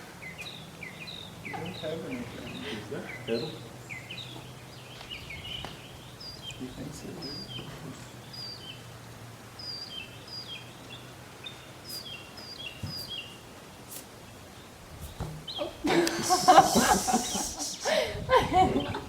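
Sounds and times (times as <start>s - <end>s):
songbird chirping: 0.0s - 17.8s.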